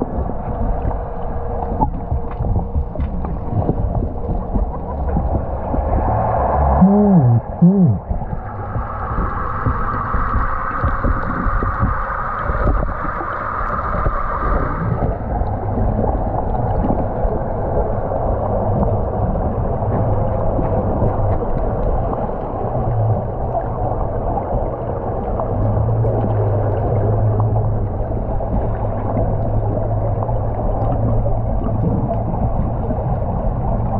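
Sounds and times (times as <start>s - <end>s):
steady low hum: 0.0s - 33.9s
underwater water rushing: 0.0s - 33.9s.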